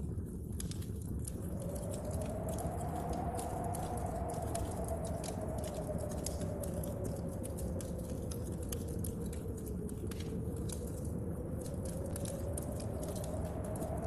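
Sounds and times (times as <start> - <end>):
wind howling: 0.0 - 14.0
wood stove fire crackling: 0.0 - 14.0
rain on window panes: 0.6 - 14.0.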